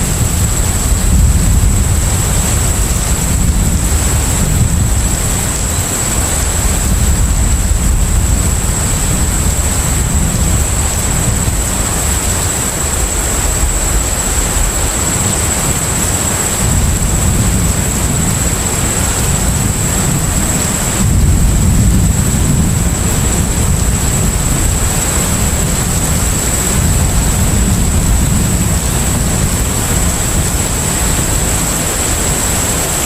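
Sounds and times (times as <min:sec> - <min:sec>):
constant high-pitched tone: 0:00.0 - 0:33.0
ship engine low rumble: 0:00.0 - 0:33.0.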